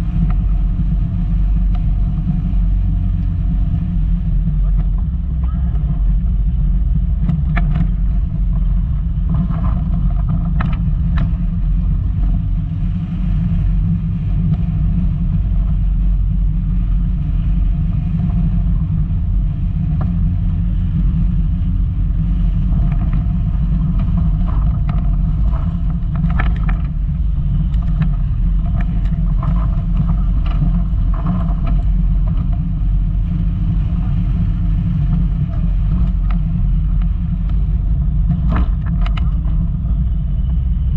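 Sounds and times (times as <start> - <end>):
car driving on rough track: 0.0 - 40.9.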